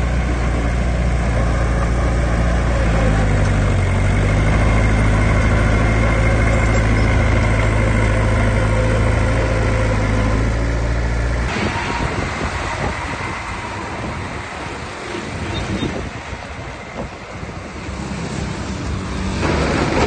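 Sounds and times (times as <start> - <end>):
heavy diesel engine running: 0.0 - 20.0
rough noisy rumble: 0.0 - 20.0.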